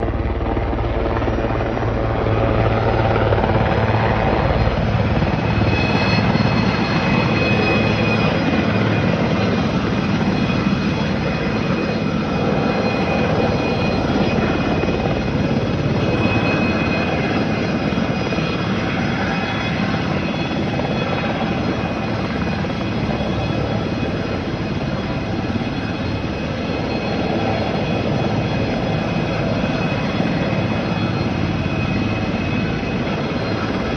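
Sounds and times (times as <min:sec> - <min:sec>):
helicopter rotor chop: 0:00.0 - 0:33.9
turbine whine: 0:00.0 - 0:33.9.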